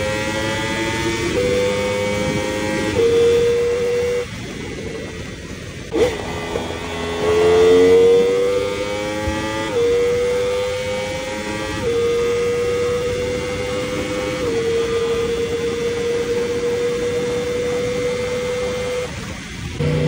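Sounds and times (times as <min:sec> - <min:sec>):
motorcycle engine revving: 0:00.0 - 0:20.0
wind rushing over microphone: 0:00.0 - 0:20.0.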